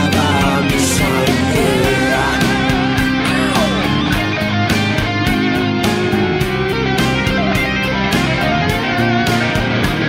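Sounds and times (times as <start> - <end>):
bass guitar: 0.0 - 10.0
electric guitar lead line: 0.0 - 10.0.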